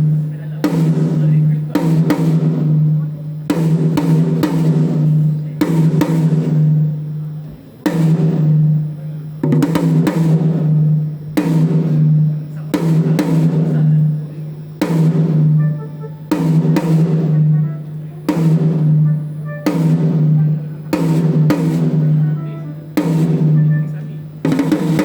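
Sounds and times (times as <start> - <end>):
drum hits ringing: 0.0 - 25.0.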